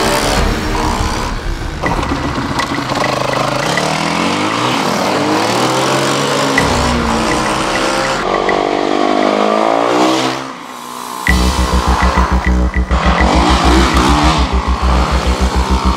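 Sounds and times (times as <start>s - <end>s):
dirt bike engine revving: 0.0s - 10.4s, 11.3s - 15.9s
quad bike engine revving: 0.0s - 10.4s, 11.3s - 15.9s.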